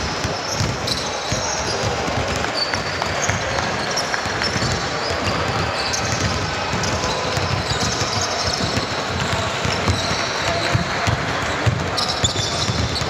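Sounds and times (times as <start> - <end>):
basketball bouncing on court: 0.0 - 13.0.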